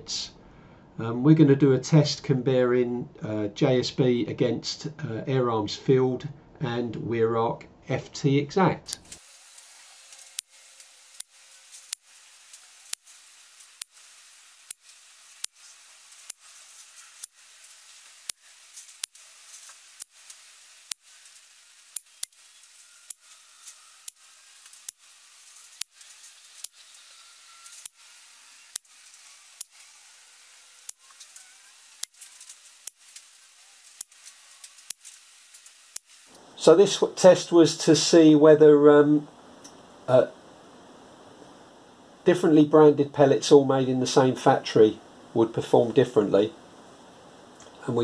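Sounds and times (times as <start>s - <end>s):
faint hiss: 8.8s - 48.0s.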